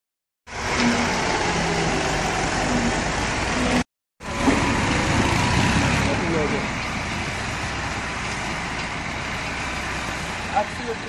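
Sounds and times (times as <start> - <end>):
tractor diesel engine running: 0.5 - 11.0.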